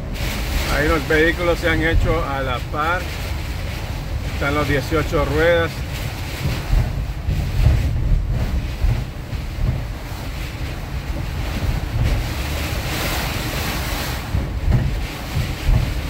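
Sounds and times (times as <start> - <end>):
heavy rain on windshield: 0.0 - 16.0
wind buffeting: 0.0 - 16.0.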